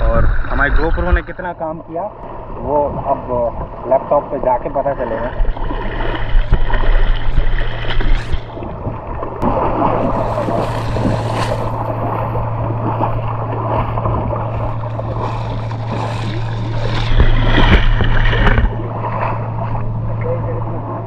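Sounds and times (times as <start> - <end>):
low hum: 0.0 - 21.0
water splashing from wading: 0.0 - 21.0.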